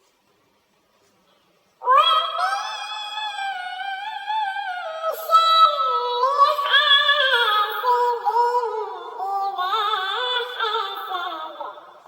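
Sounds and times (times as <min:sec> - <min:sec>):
high-pitched voice reciting: 0:01.8 - 0:12.0.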